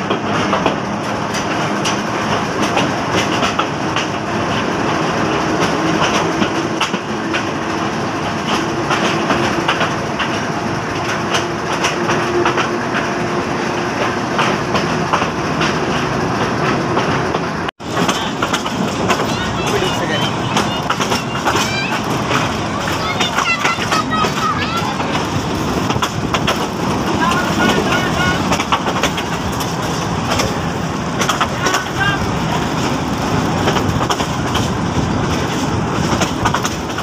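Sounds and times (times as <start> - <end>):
train wheels clattering over track: 0.0 - 37.0.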